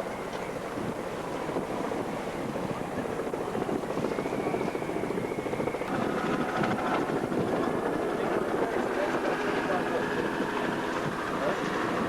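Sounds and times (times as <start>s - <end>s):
pulsing engine drone: 0.1s - 12.0s.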